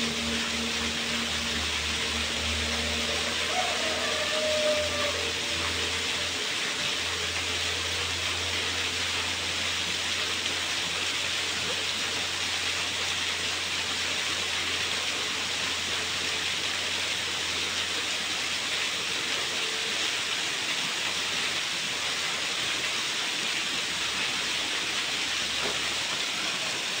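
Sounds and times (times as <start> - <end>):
waterfall splashing into pool: 0.0 - 27.0.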